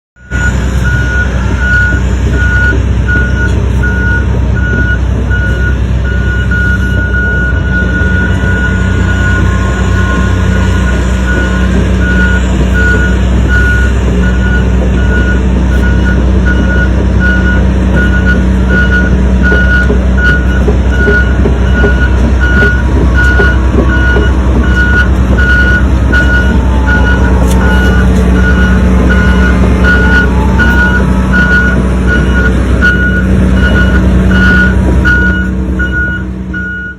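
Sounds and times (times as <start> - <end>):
excavator diesel engine running: 0.2 - 36.9
high beeping travel alarm: 0.2 - 36.9.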